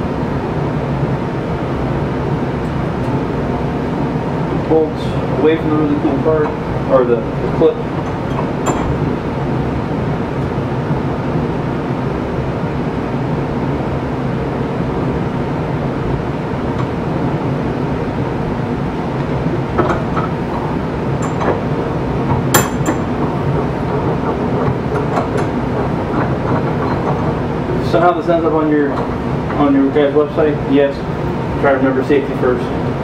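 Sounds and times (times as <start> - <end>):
workshop machinery hum: 0.0 - 33.0.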